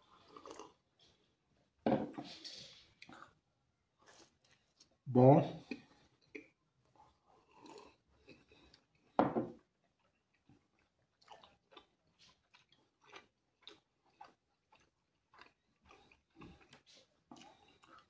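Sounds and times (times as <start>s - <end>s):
person chewing: 0.0s - 1.2s, 2.2s - 5.0s, 5.6s - 18.0s.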